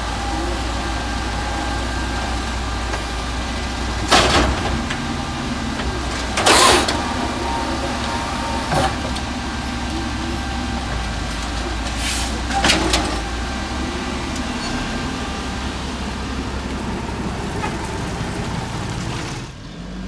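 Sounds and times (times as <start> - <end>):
garbage truck diesel engine running: 0.0 - 20.0.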